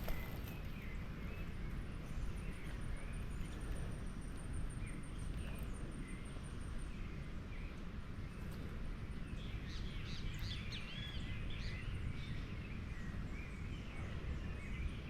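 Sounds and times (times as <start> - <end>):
low wind rumble on microphone: 0.0 - 15.0
small birds chirping: 0.0 - 15.0.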